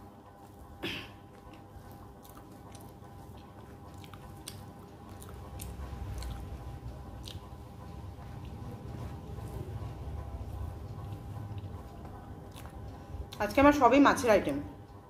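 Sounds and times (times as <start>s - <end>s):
person chewing food: 0.4s - 13.4s.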